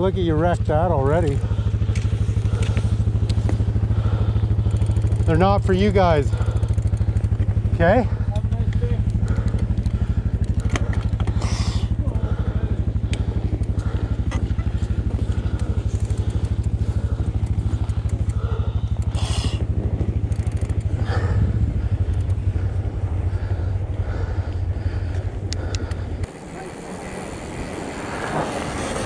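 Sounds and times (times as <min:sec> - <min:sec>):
bike tyres crunching on snow: 0:00.0 - 0:25.4, 0:26.0 - 0:29.0
engine idling: 0:00.0 - 0:29.0.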